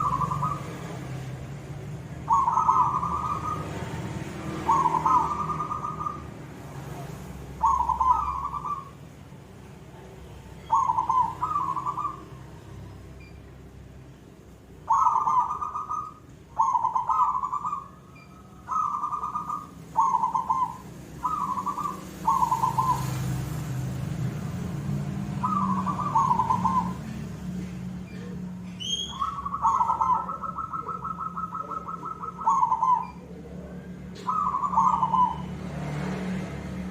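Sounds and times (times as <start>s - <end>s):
dove cooing: 0.0s - 6.7s, 7.5s - 9.0s, 10.5s - 12.5s, 14.7s - 24.0s, 24.7s - 36.6s.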